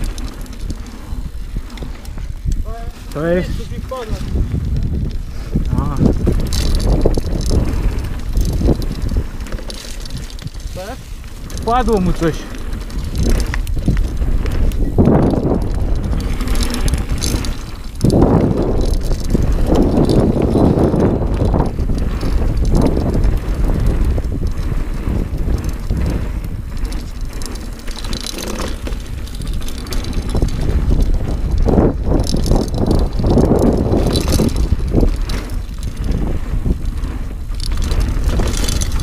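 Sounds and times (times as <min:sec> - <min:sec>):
bike tyres rolling over dirt: 0:00.0 - 0:39.0
wind on microphone: 0:00.0 - 0:39.0.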